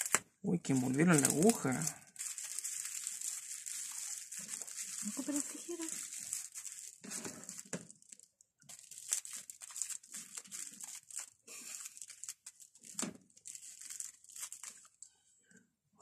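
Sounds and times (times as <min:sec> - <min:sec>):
plastic wrapping crinkling: 0:00.0 - 0:15.1.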